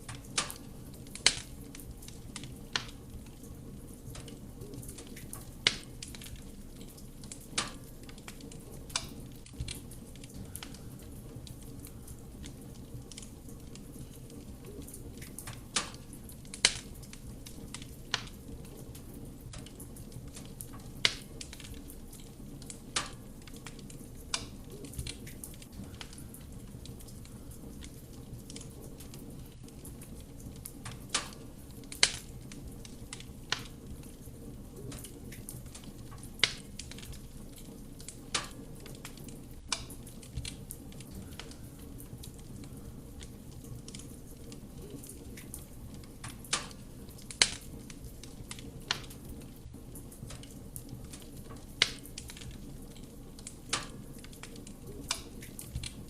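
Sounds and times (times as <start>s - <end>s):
logs crackling and popping: 0.0s - 56.0s
low rumble of flame: 0.0s - 56.0s.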